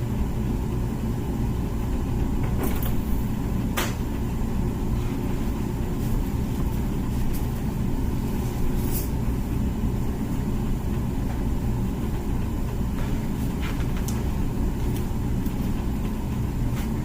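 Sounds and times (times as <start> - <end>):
dishwasher rumbling and spraying: 2.1 - 9.6, 10.4 - 17.0.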